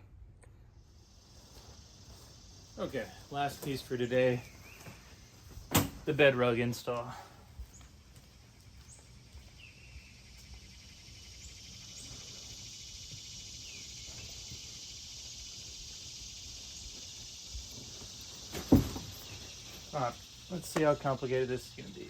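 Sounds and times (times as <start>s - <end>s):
insects buzzing: 0.7s - 22.0s.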